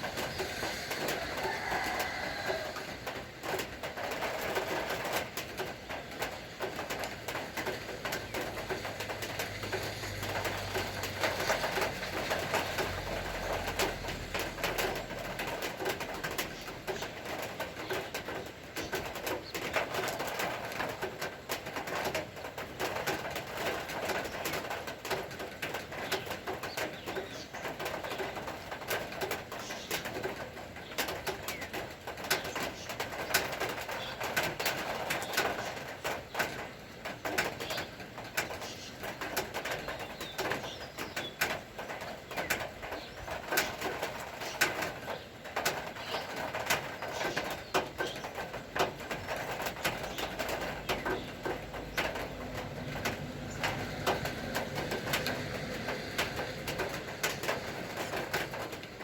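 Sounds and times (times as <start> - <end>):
rain drops tapping hard surface: 0.0 - 59.0.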